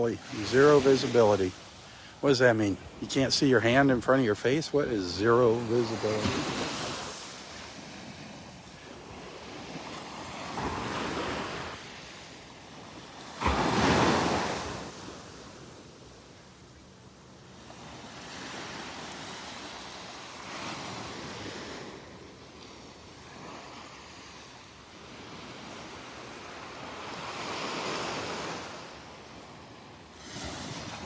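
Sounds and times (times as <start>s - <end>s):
small waves washing onto beach: 0.0s - 31.0s.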